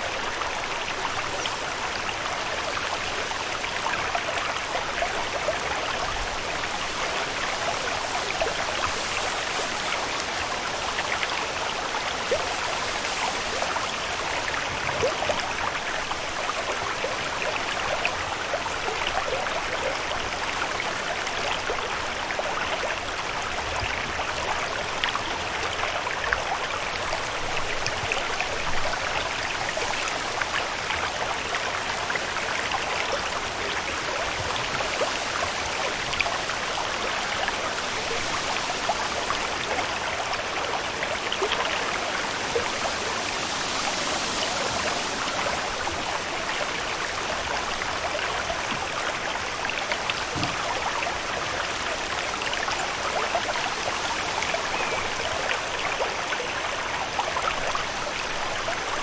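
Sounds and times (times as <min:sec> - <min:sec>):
running water splashing and trickling: 0:00.0 - 0:59.0.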